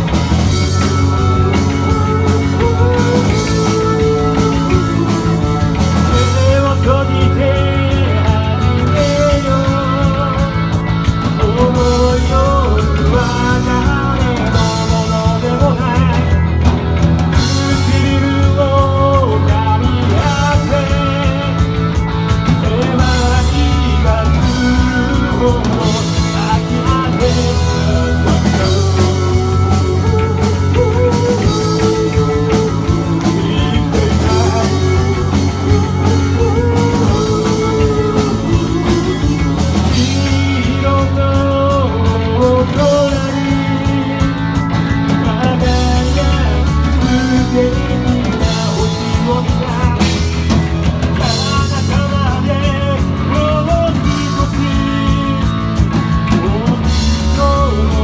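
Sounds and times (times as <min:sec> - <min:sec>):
person singing: 0:00.0 - 0:16.6, 0:17.4 - 0:58.0
live rock band playing: 0:00.0 - 0:58.0.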